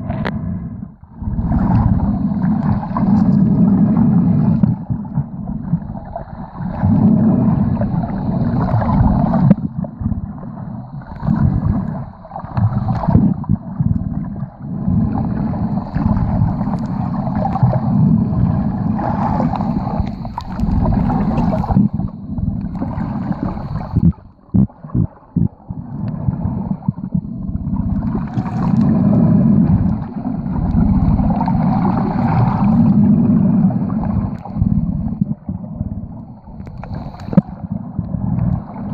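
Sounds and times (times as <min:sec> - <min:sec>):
muffled underwater sloshing: 0:00.0 - 0:38.9.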